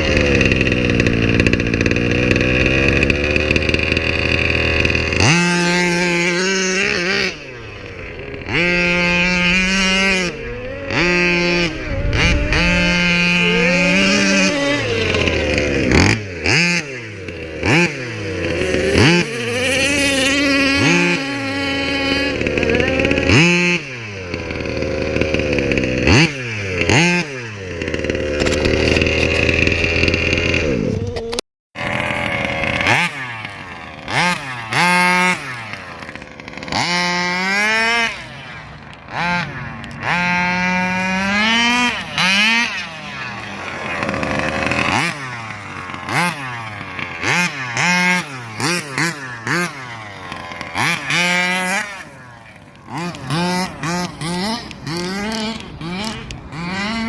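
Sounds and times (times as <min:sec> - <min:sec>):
rc buggy engine revving: 0:00.0 - 0:57.0.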